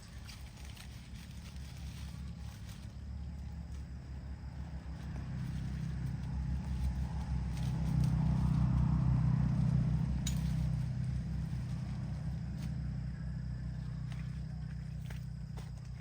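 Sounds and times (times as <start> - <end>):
motor engine rumbling: 0.0 - 16.0.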